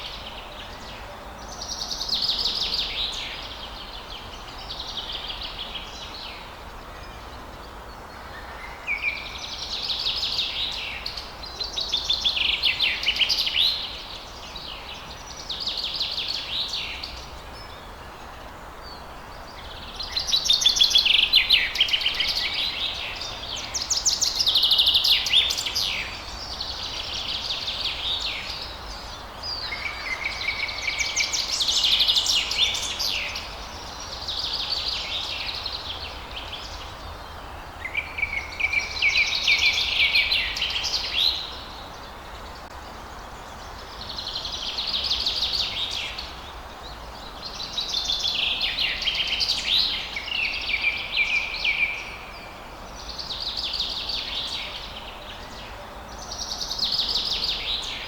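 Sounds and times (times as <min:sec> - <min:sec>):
background hiss: 0:00.0 - 0:58.0
songbirds chirping: 0:00.0 - 0:58.0.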